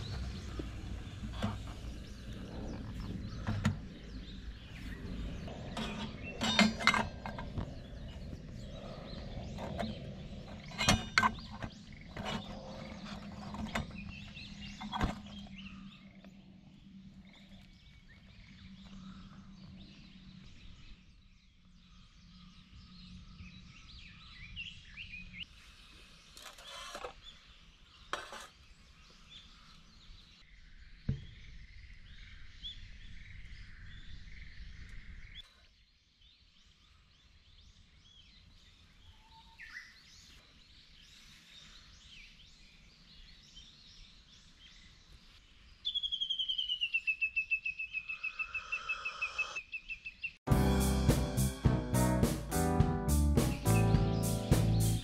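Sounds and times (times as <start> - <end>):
small birds chirping: 0.0 - 50.4, 53.1 - 55.0.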